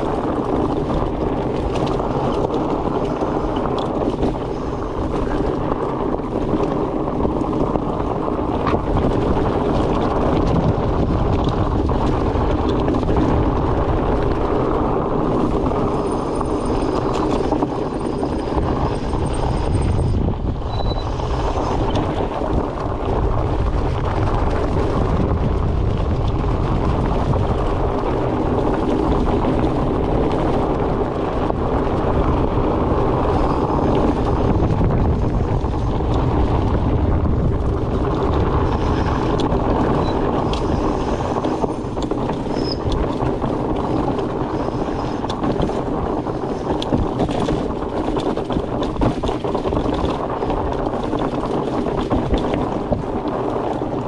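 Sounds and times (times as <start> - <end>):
bike tyres rolling drone: 0.0 - 54.0
wind rush over microphone: 0.0 - 54.0.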